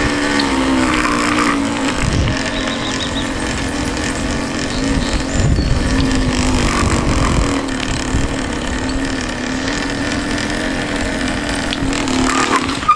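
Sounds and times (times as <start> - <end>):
heavy low rumble: 0.0 - 12.9
small engine running: 0.0 - 12.9.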